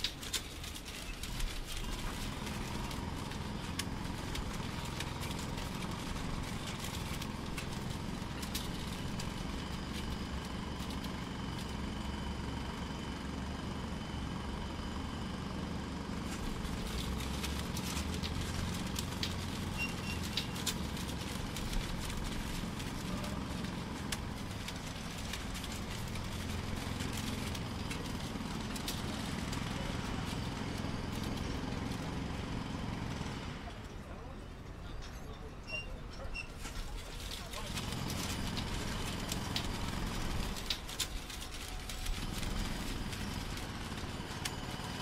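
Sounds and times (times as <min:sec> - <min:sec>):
heavy machine engine rumbling: 0:00.0 - 0:45.0.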